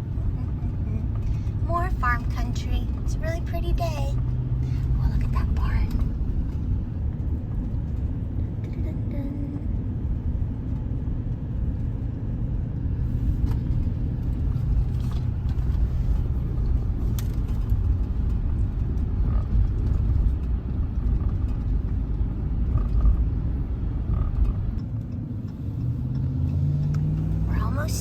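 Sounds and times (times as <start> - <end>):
vehicle engine and tyre rumble: 0.0 - 28.0.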